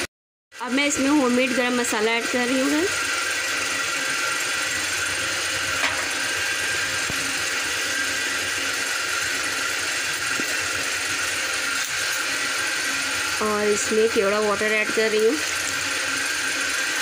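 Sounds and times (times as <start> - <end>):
pot boiling hiss: 0.6 - 17.0.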